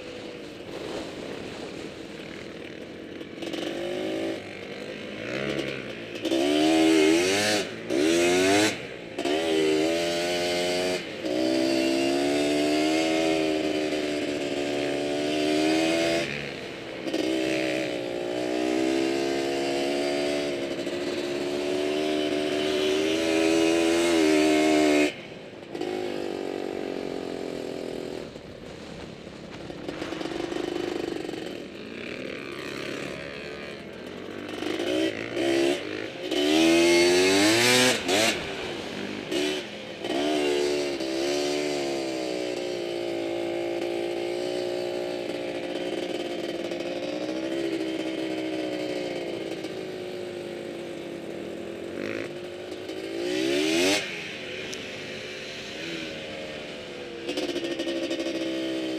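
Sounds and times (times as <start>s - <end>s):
quad bike engine revving: 0.0s - 58.9s.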